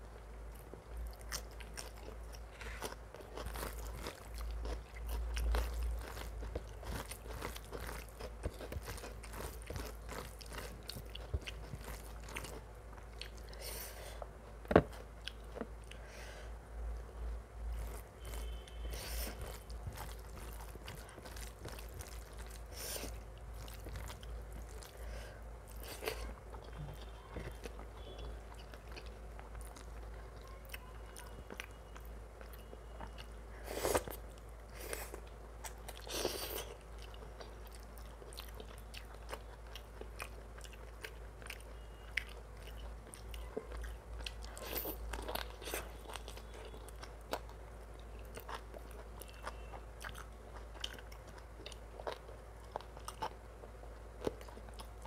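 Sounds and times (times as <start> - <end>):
chewing and biting: 0.5 - 13.8, 17.7 - 25.1, 25.7 - 55.0.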